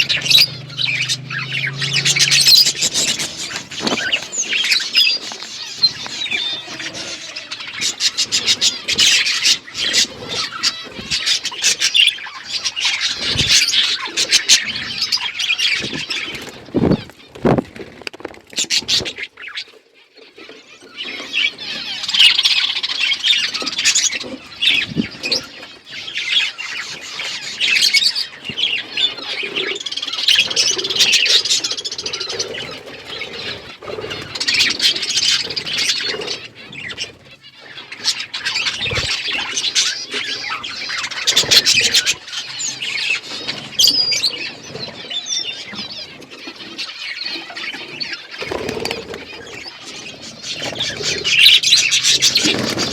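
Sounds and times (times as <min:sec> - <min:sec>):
budgerigars chattering and chirping: 0:00.0 - 0:17.2, 0:18.6 - 0:52.9.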